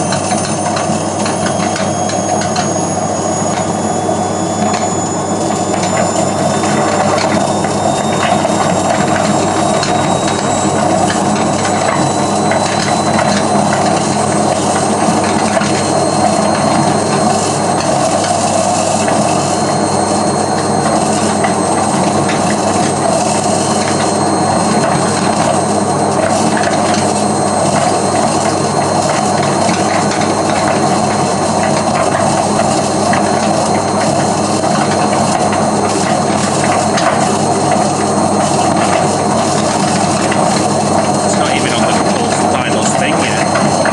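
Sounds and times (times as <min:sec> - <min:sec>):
high-pitched whine: 0:00.0 - 0:43.9
washing machine rumbling: 0:00.0 - 0:43.9.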